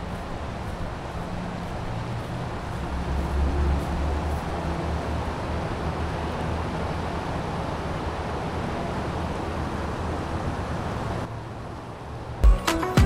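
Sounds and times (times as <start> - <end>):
outdoor rushing noise: 0.0 - 12.5.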